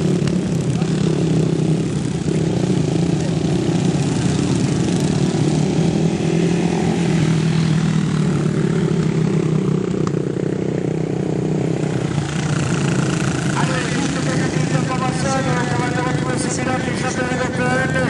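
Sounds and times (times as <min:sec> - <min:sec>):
quad bike engines droning: 0:00.0 - 0:18.0.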